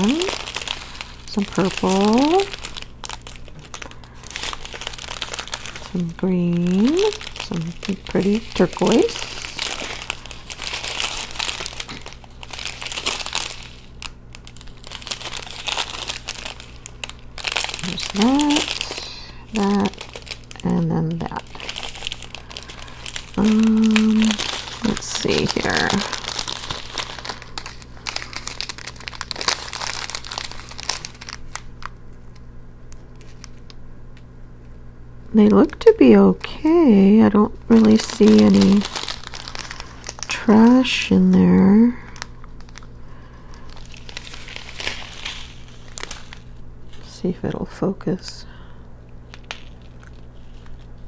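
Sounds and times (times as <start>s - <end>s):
plastic bags crinkling: 0.0s - 33.8s, 35.3s - 47.3s, 48.2s - 51.0s
faint low hum: 0.0s - 51.0s.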